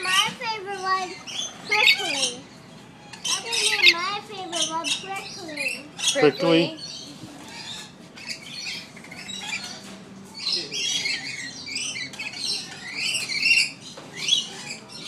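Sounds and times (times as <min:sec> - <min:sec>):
lorikeets screeching and chattering: 0:00.0 - 0:15.0.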